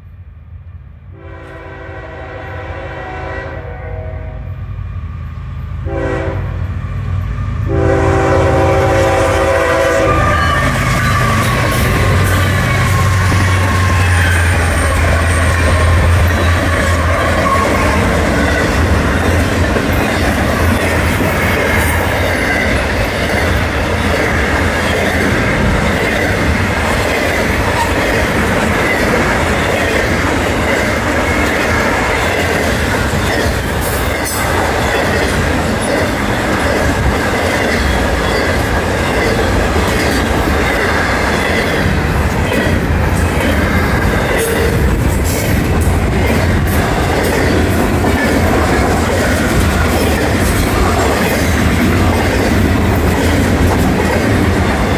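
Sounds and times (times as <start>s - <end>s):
diesel locomotive engine hum: 0.0s - 54.9s
train wheels on rails: 4.4s - 54.9s.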